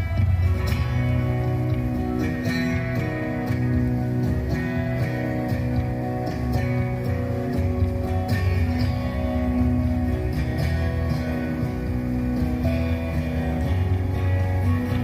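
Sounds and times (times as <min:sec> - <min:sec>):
steady beat: 0:00.0 - 0:15.0
strummed guitar: 0:00.0 - 0:15.0.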